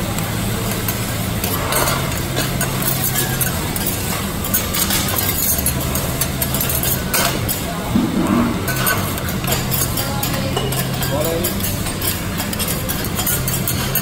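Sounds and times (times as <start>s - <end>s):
low mechanical hum: 0.0s - 14.0s
metal spatulas scraping on griddle: 1.4s - 14.0s.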